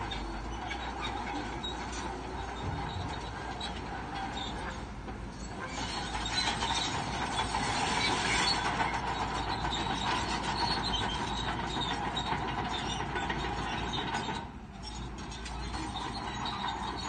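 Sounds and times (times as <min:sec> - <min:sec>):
steel tracks clattering: 0:00.0 - 0:16.9
bulldozer engine running: 0:00.0 - 0:17.0.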